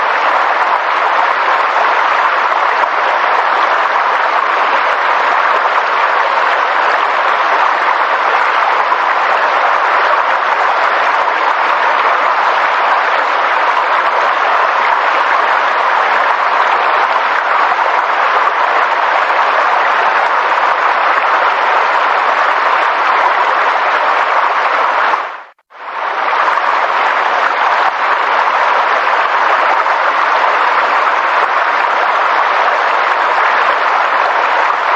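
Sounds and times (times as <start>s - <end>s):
steady rushing nature noise: 0.0s - 34.9s.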